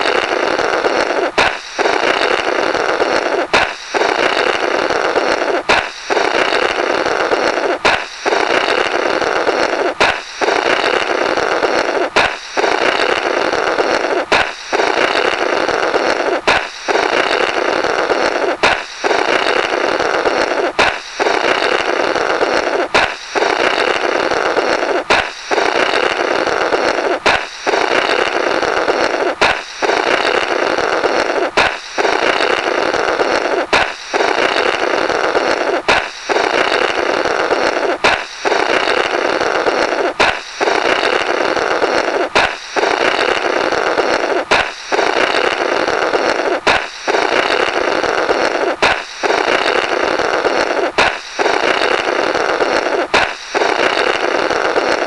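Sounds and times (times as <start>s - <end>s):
balloon popping: 0.0s - 55.0s
rough blown raspberry: 0.0s - 55.0s.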